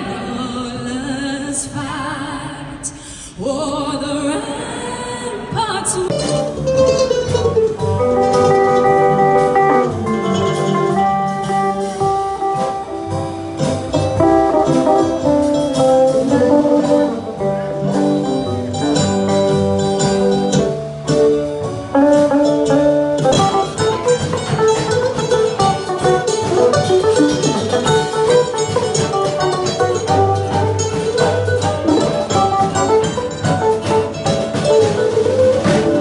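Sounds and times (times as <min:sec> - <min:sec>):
picked guitar: 0:06.0 - 0:36.0
fiddle: 0:06.1 - 0:36.0
upright bass: 0:06.1 - 0:36.0.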